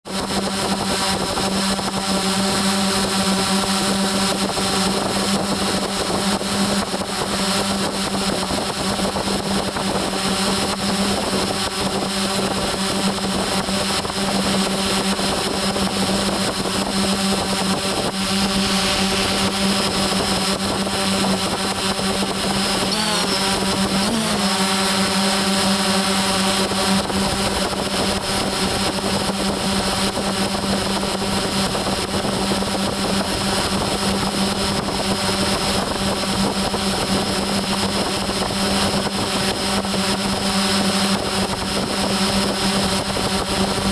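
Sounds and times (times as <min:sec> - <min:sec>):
drone propellers humming: 0:00.1 - 0:43.9.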